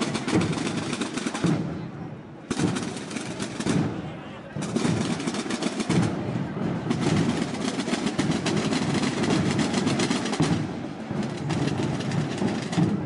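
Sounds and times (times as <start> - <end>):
rapid side drum strokes: 0.0 - 1.8, 2.5 - 13.0.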